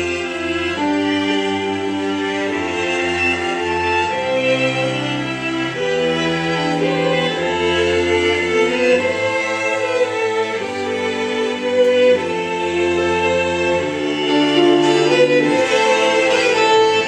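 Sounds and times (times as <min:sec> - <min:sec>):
solo violin melody: 0:00.0 - 0:17.0
sustained string chords: 0:00.0 - 0:17.0.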